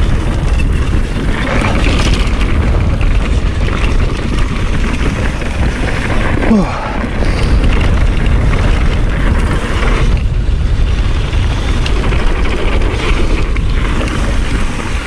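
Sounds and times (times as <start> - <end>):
tyres rolling on dirt trail: 0.0 - 15.0
wind rushing over microphone: 0.0 - 15.0.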